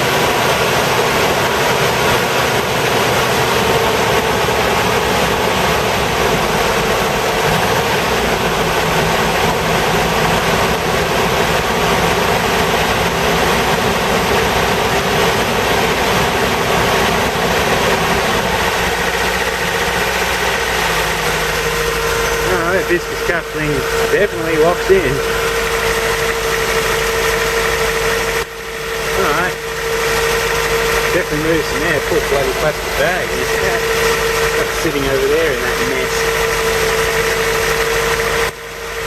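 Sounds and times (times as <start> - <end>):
engine cooling fan rushing air: 0.0 - 39.0
van engine running: 0.0 - 39.0.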